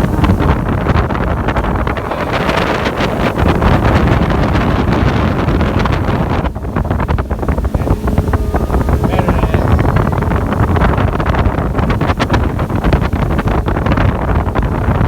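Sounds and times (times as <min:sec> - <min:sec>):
boat engine: 0:00.0 - 0:15.0
water noise: 0:00.0 - 0:15.0
wind buffeting microphone: 0:00.0 - 0:15.0.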